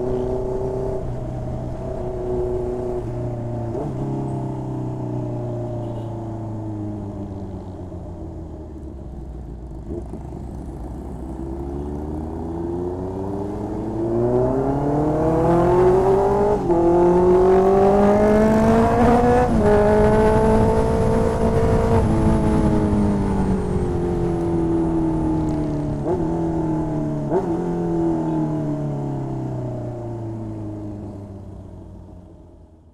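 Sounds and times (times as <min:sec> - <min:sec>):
motorcycle engine accelerating: 0:00.0 - 0:32.6.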